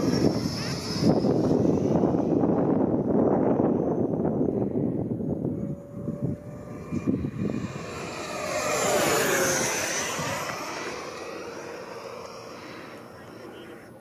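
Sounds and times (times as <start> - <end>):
wind on microphone: 0.0 - 13.3
model jet fan whining: 0.0 - 14.0.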